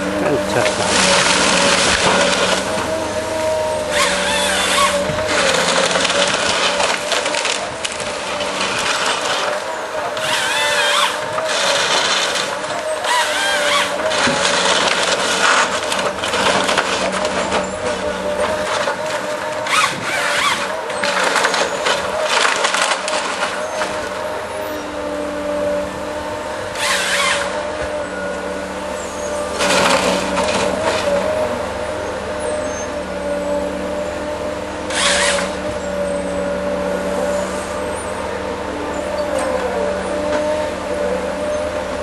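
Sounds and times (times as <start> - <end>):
felling head sawing wood: 0.0 - 42.0
harvester engine and hydraulics whine: 0.0 - 42.0.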